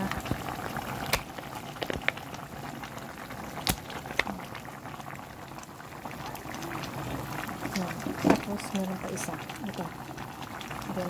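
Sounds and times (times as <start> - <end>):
broth boiling in a pot: 0.0 - 11.0.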